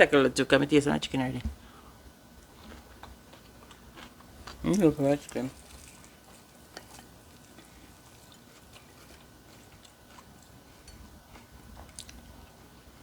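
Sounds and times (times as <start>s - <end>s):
chewing fried chicken: 2.3s - 13.0s.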